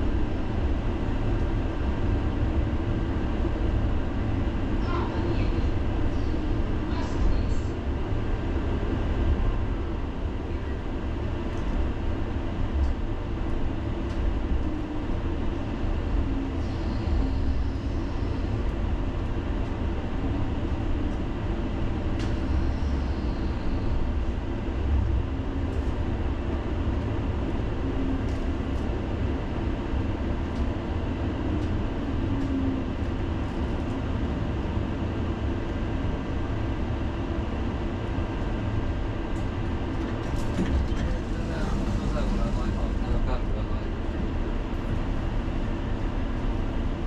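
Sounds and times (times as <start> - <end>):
tram wheels rumbling on rails: 0.0 - 47.0.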